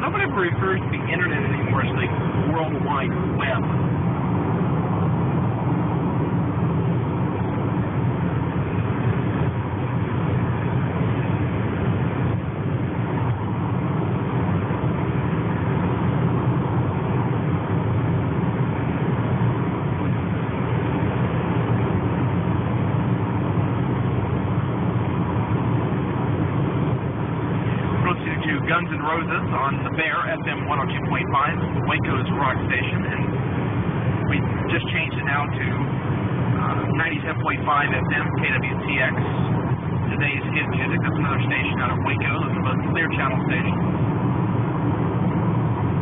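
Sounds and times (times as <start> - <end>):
car cabin road noise: 0.0 - 46.0.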